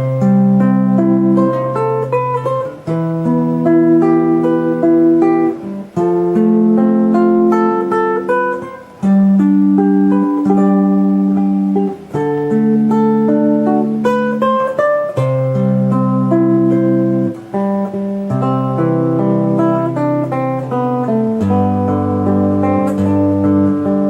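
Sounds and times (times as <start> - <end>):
instrumental sustained chords: 0.0 - 24.0.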